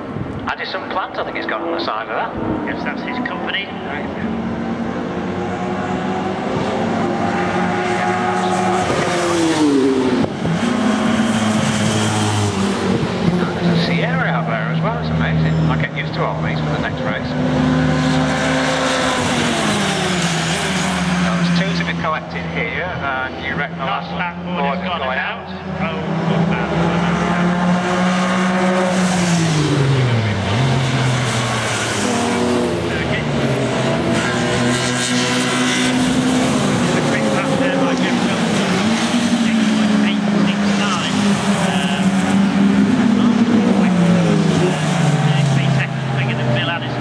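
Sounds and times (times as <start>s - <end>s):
racing cars passing: 0.0s - 47.0s.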